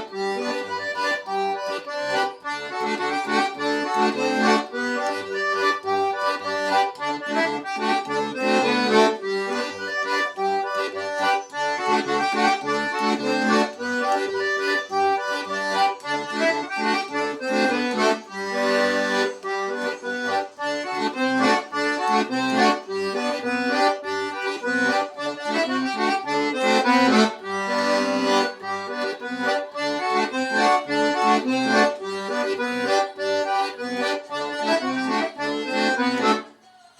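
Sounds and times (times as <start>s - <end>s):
button accordion playing: 0.0s - 36.6s.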